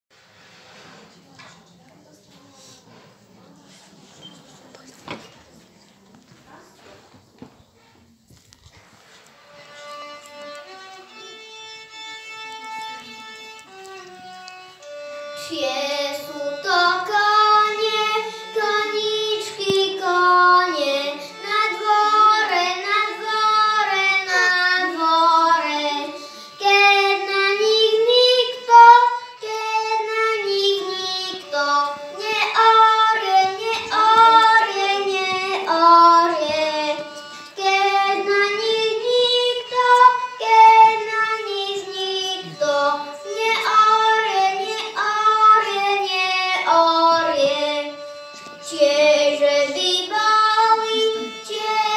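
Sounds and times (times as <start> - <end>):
violin playing: 9.3 - 51.9
boy singing folk song: 9.5 - 51.9.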